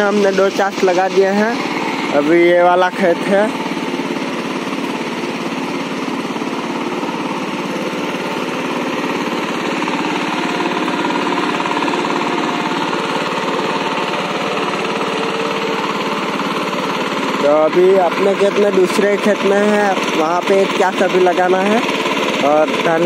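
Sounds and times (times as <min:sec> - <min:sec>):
diesel tiller engine chugging: 0:00.0 - 0:23.0.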